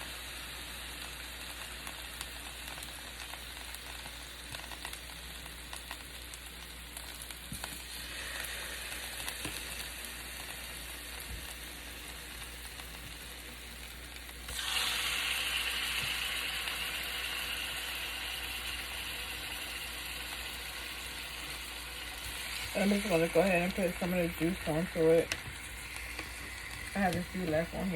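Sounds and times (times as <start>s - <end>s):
chicken sizzling in a skillet: 0.0s - 27.9s.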